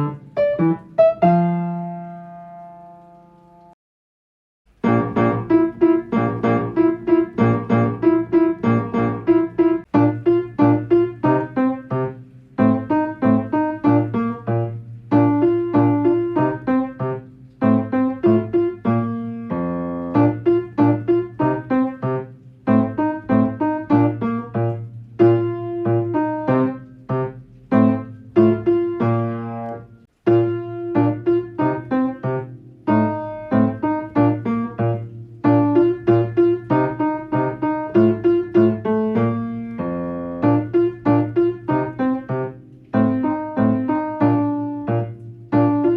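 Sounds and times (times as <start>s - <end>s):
solo piano playing chords: 0.0s - 3.8s, 4.7s - 45.9s.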